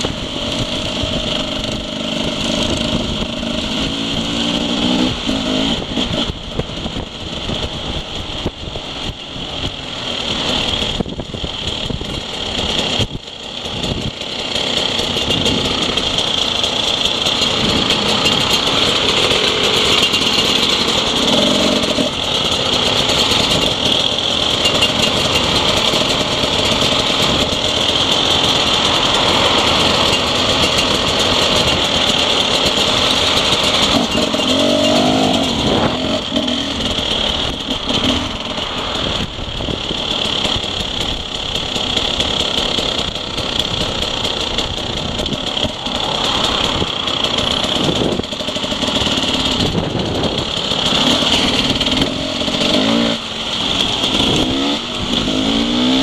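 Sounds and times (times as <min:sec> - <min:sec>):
dirt bike engines: 0:00.0 - 0:56.0.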